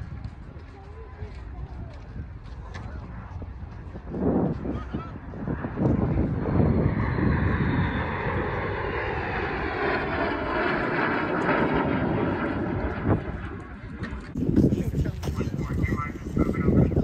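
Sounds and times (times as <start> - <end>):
jet engines passing overhead: 0.0 - 17.0.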